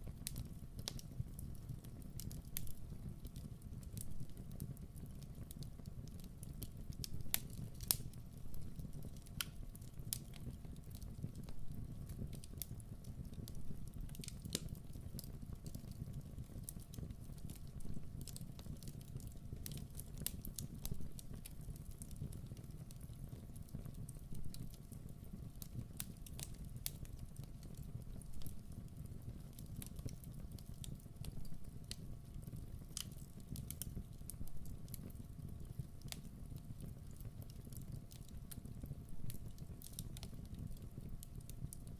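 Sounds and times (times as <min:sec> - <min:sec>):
fire crackling and popping: 0:00.0 - 0:41.9
fire rumbling: 0:00.0 - 0:41.9.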